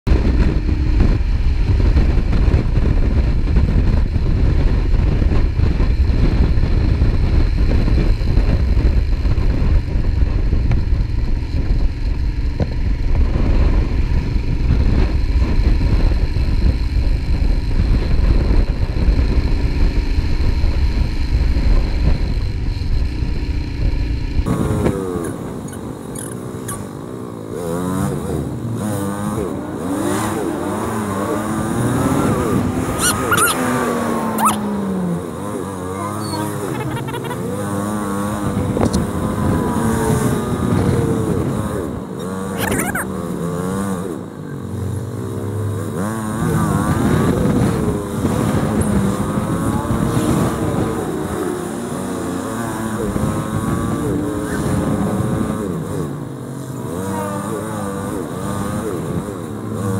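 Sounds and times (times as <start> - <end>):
motorcycle engine revving: 0.1 - 59.9
wind rumble on microphone: 0.1 - 59.9.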